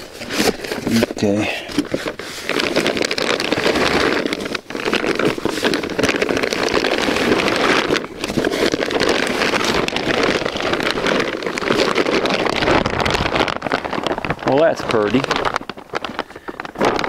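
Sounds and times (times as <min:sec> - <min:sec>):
cardboard and plastic rustling: 0:00.0 - 0:17.0.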